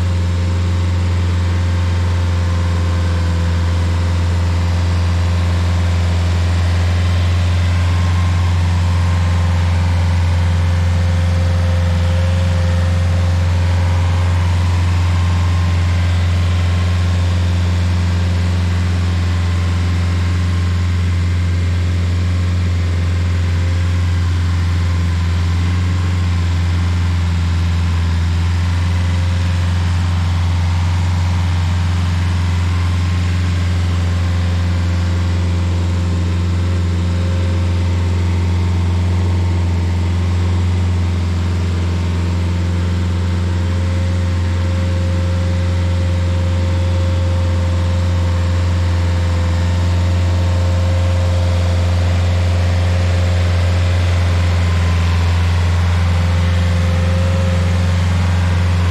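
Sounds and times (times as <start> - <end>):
stump grinder engine running: 0.0 - 58.9.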